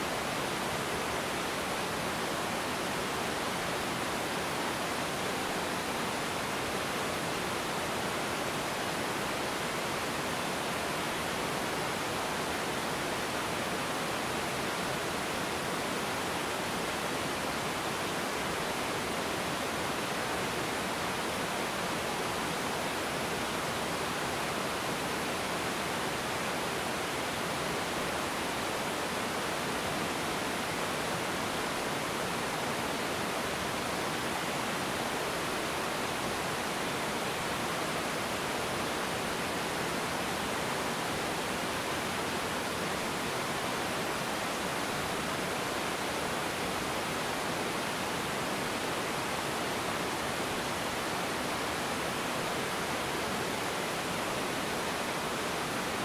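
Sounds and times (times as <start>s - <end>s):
water rushing over waterfall: 0.0s - 56.0s.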